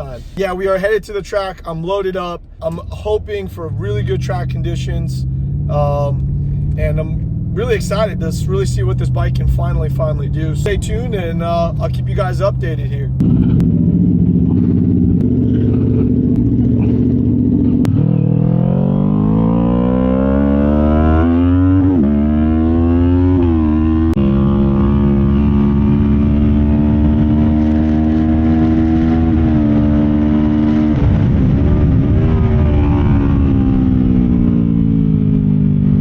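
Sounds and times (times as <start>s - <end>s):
vehicle engine accelerating: 0.0s - 36.0s.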